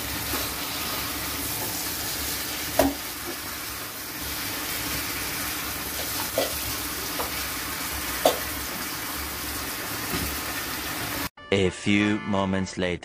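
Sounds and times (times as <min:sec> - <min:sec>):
chicken sizzling in oil: 0:00.0 - 0:11.3.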